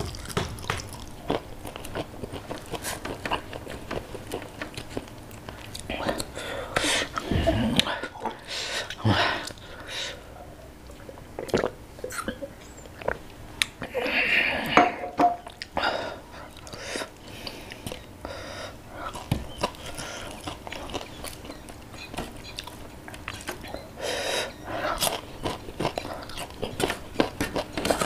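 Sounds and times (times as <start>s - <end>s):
man chewing food: 0.0s - 28.0s.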